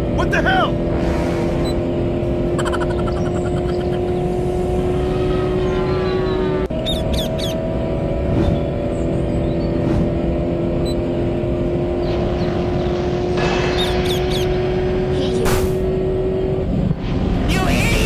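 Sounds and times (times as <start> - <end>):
cartoon engine hum: 0.0 - 15.9.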